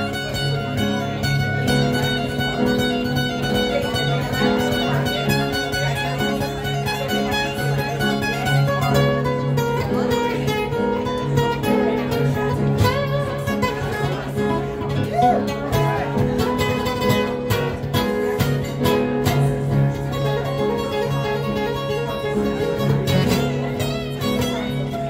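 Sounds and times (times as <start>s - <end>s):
acoustic guitar picking: 0.0s - 25.0s.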